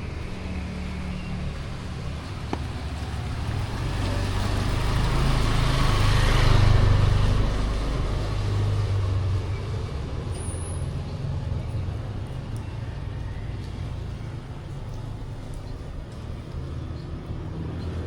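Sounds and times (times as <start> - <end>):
vehicle passing on wet road: 0.0 - 18.0.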